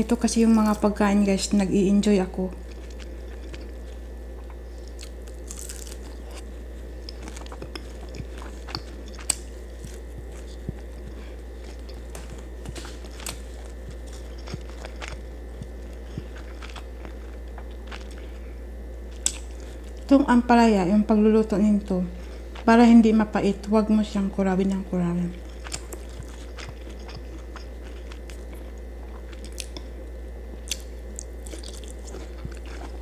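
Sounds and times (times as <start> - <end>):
chewing and crunching food: 0.0 - 1.6, 2.3 - 20.3, 24.0 - 33.0
steady low hum: 0.0 - 33.0.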